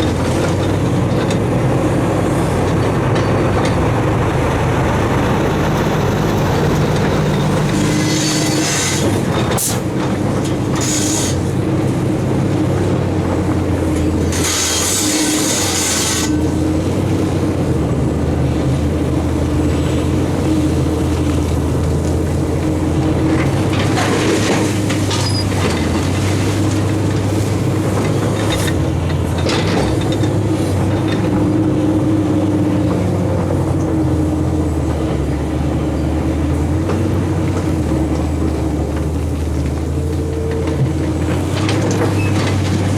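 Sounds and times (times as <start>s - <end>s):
gravel being dug and loaded: 0.0s - 42.9s
heavy diesel engines running: 0.0s - 42.9s.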